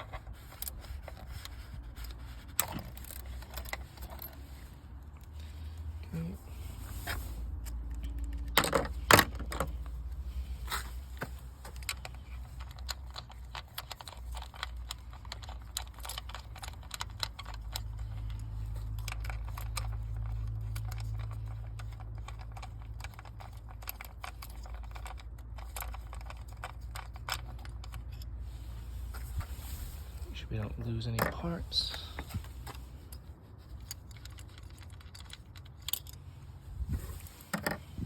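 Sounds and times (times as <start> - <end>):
small metal parts clinking: 0.0 - 5.8, 6.9 - 38.0.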